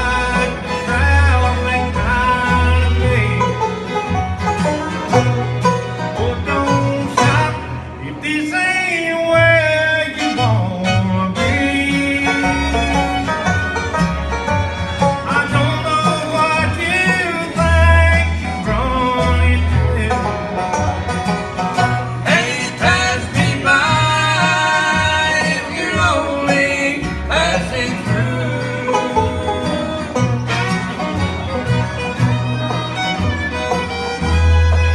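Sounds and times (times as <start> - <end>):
steady bass line: 0.0 - 8.0, 10.4 - 34.9
banjo: 0.0 - 34.9
fiddle: 0.0 - 34.9.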